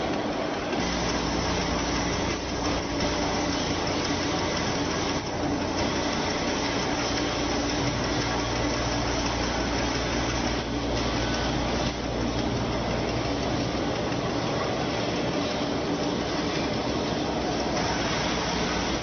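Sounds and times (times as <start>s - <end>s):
welding machine mechanical din: 0.7s - 19.0s.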